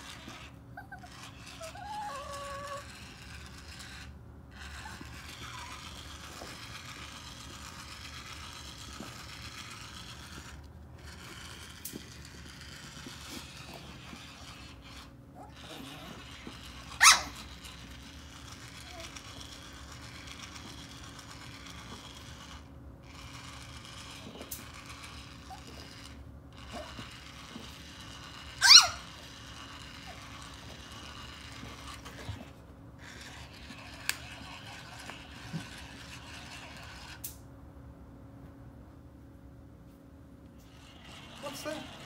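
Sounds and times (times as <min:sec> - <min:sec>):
toy ball motor whirring: 0:00.0 - 0:37.5, 0:40.5 - 0:42.0.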